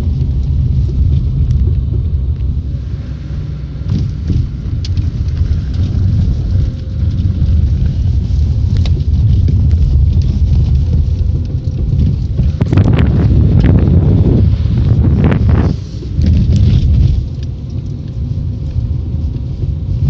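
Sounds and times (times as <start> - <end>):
car road rumble: 0.0 - 20.0.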